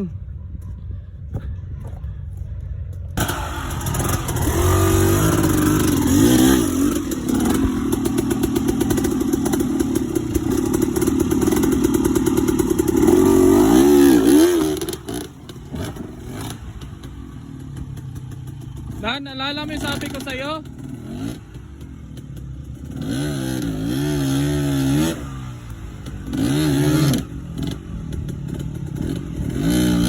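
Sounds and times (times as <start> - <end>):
dirt bike engine revving: 3.2 - 30.0.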